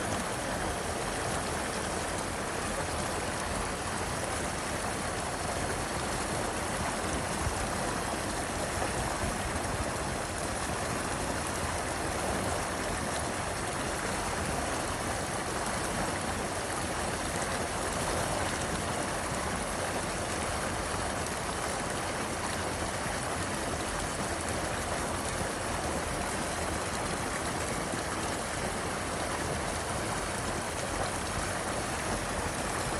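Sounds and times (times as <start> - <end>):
river water rushing: 0.0 - 32.9.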